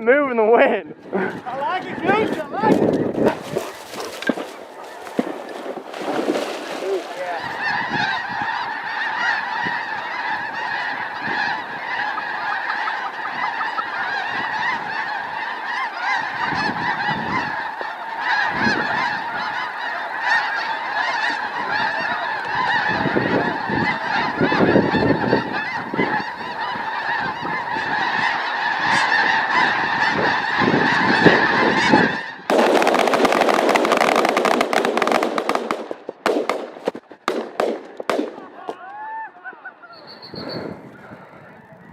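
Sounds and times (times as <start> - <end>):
snow geese honking: 1.1 - 41.9.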